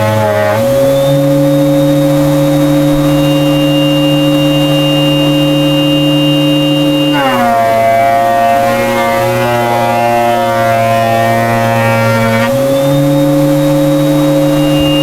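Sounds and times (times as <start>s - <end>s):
power saw cutting wood: 0.0s - 15.0s.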